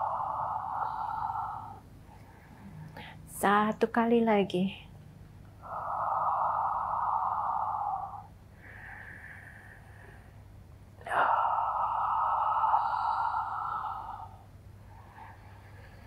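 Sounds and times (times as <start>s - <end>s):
woman breathing slowly and deeply: 0.0s - 3.3s, 5.5s - 16.0s.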